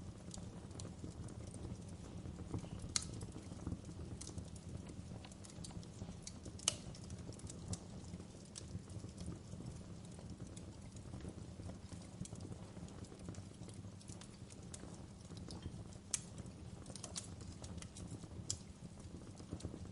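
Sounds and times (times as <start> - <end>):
wood fire crackling and popping: 0.0 - 19.9.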